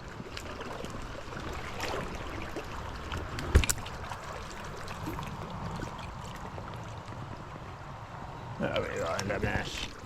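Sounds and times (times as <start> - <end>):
stream water rushing over rocks: 0.0 - 10.0.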